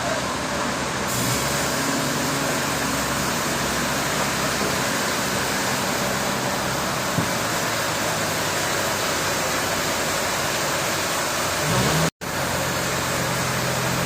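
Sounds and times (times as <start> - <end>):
machinery hiss: 1.0 - 14.0.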